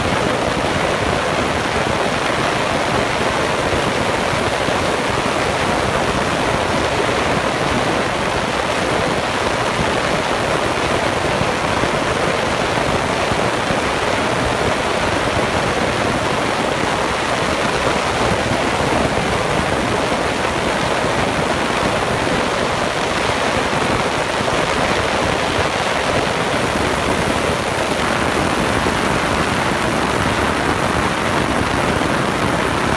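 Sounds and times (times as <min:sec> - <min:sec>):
ultrasonic cleaner hiss: 0:00.0 - 0:32.9.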